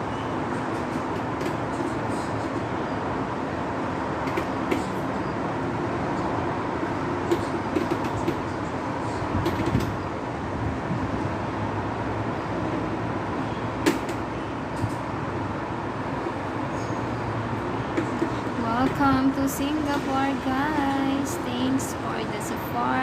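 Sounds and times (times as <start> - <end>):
city traffic hum: 0.0 - 23.0.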